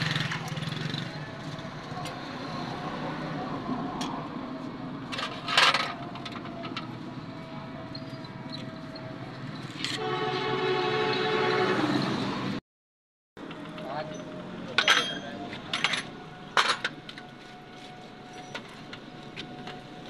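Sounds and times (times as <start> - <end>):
workshop background noise: 0.0 - 10.1, 13.4 - 20.0.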